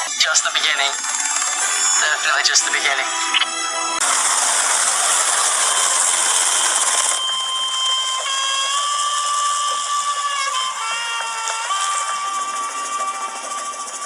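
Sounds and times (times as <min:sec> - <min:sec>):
helicopter high whine: 0:00.0 - 0:14.0
helicopter rushing hiss: 0:00.0 - 0:14.0.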